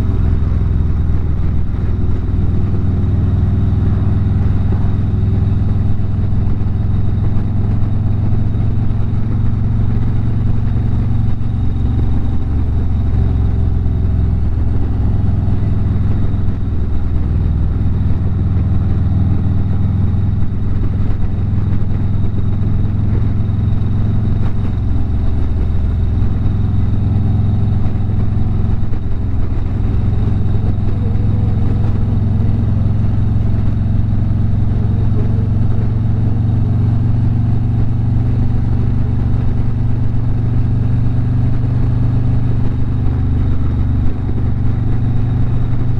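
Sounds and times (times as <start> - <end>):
motorcycle engine rumble: 0.0 - 45.9.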